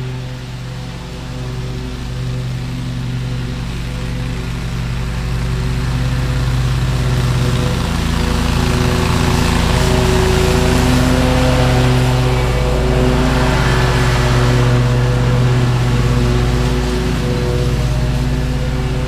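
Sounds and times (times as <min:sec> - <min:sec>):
mower engine and blades: 0:00.0 - 0:19.0.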